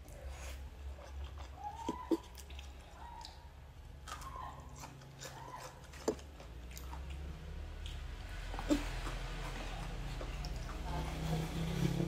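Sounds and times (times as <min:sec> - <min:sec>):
chewing noodles: 0:00.0 - 0:11.4.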